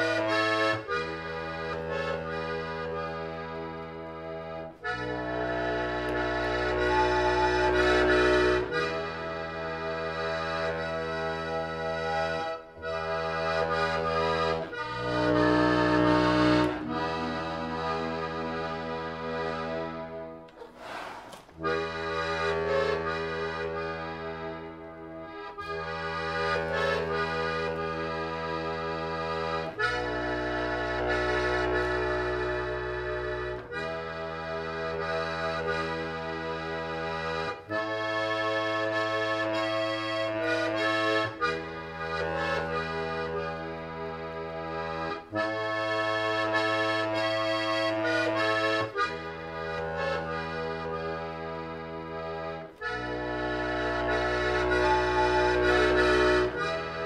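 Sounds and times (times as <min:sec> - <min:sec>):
slow instrumental music: 0:00.0 - 0:57.0.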